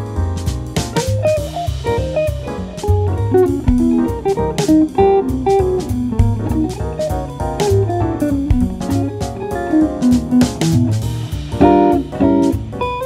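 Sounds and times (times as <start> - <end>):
jazz guitar playing melody: 0.0 - 13.0.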